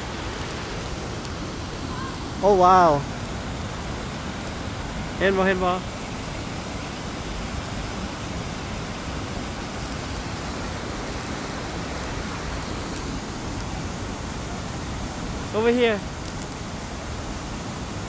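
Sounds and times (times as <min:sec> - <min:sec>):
stream flowing over rocks: 0:00.0 - 0:18.0
waterfall rushing: 0:00.0 - 0:18.0.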